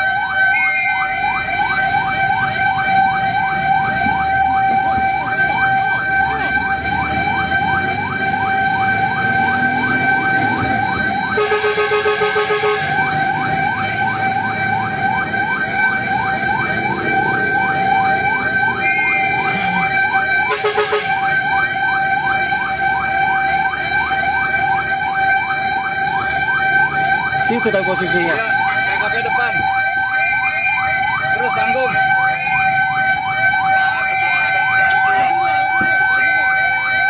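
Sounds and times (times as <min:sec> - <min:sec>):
pulsing horn blasts: 0:00.0 - 0:37.0
siren yelping: 0:00.0 - 0:37.0.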